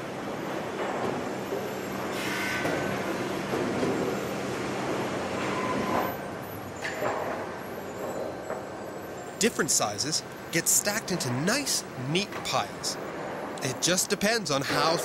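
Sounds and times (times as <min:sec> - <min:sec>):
machinery hum and rumble: 0:00.0 - 0:15.0.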